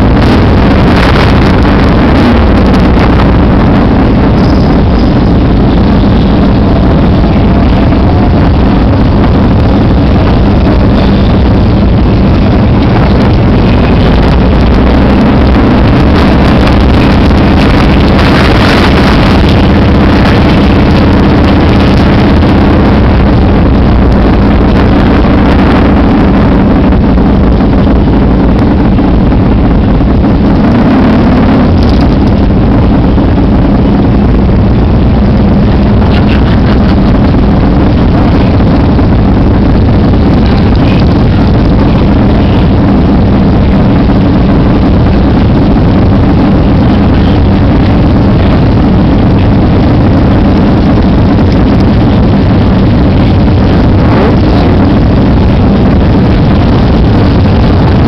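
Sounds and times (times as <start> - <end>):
loud motorcycle engine running: 0.0 - 58.0.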